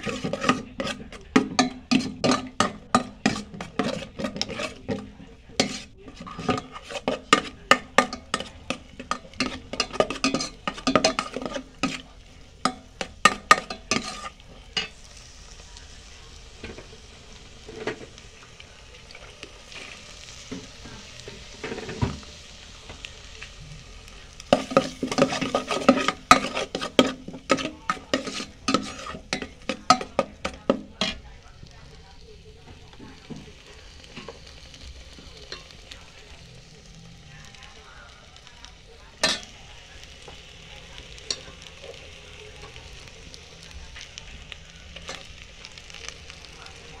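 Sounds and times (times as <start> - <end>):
metal spatula scraping a pan: 0.0 - 15.6, 19.0 - 37.2, 39.2 - 43.2
rice sizzling in a pan: 0.0 - 47.0.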